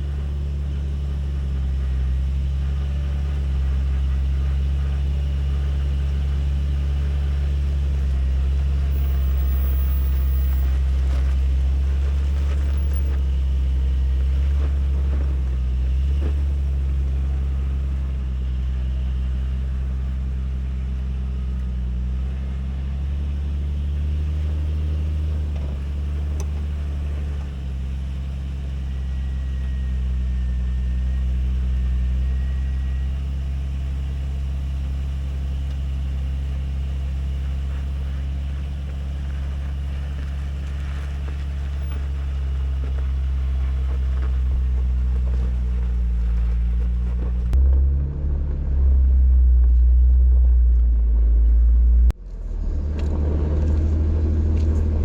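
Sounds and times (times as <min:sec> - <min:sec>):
engine running at low revs: 0:00.0 - 0:55.0.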